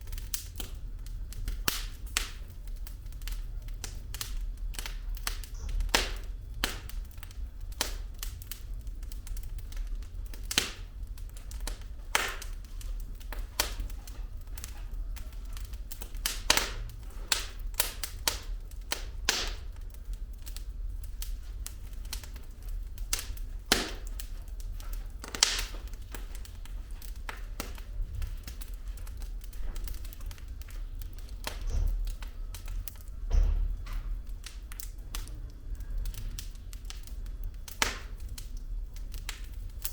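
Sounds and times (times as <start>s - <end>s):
burning logs crackling: 0.0s - 39.9s
flames rumbling: 0.0s - 39.9s.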